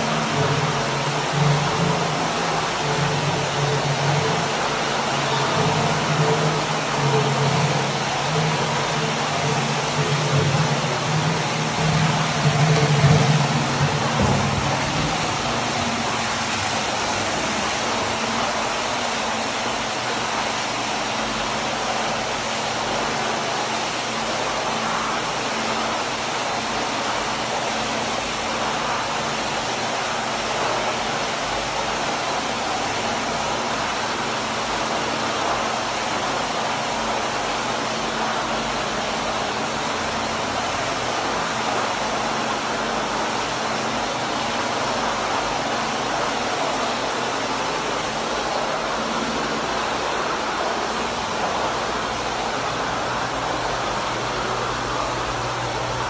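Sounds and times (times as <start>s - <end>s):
faint steady hum: 0.0s - 56.0s
water rushing in bathtub: 0.0s - 56.0s.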